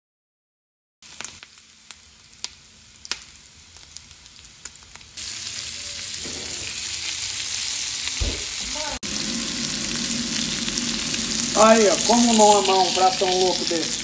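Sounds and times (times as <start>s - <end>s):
food frying in pan: 1.0s - 14.0s.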